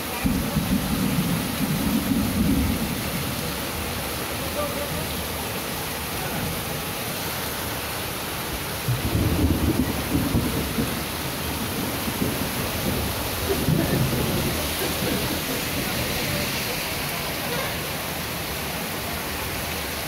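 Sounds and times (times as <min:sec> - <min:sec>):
heavy rain pouring on street: 0:00.0 - 0:20.0.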